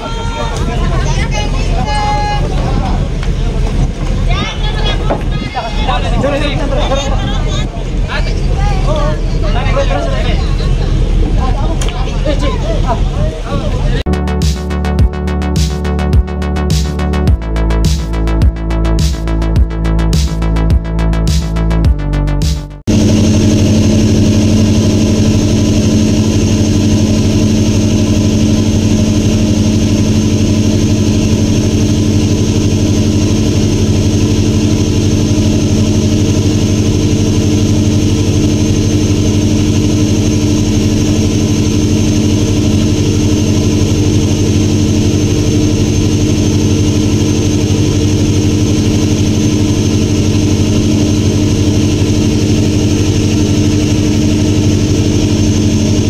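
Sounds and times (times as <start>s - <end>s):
boat engine droning: 0.0s - 22.2s, 22.8s - 56.0s.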